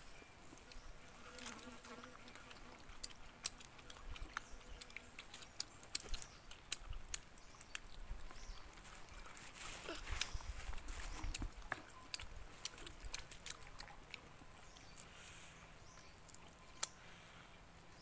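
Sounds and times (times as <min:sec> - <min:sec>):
chewing and tearing meat: 0:00.6 - 0:15.3, 0:16.0 - 0:17.2.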